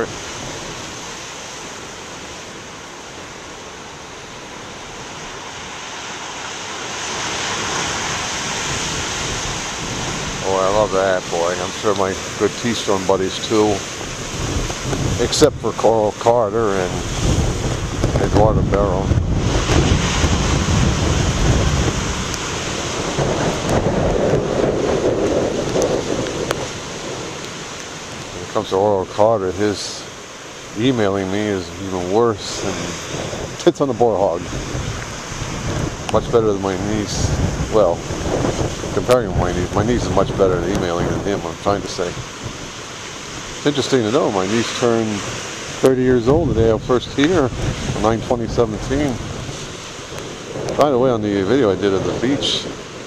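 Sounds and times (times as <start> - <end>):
large wave crashing: 0.0 - 53.0
ocean waves breaking on rocks: 0.0 - 53.0.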